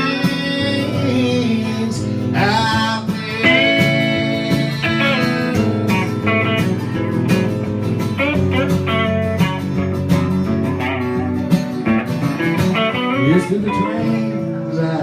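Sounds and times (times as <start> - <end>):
picked and strummed acoustic guitar: 0.0 - 15.0.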